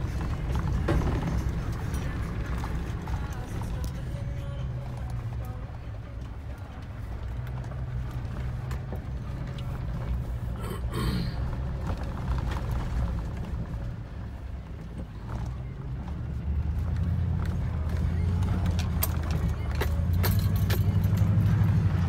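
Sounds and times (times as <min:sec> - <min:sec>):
gravel clicks and rattles: 0:00.0 - 0:10.6, 0:11.4 - 0:22.0.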